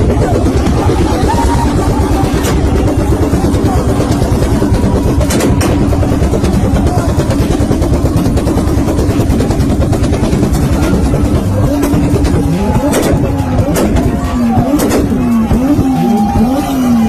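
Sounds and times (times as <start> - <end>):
exhaust pops: 0.0 - 16.9
car engine revving: 0.0 - 17.0.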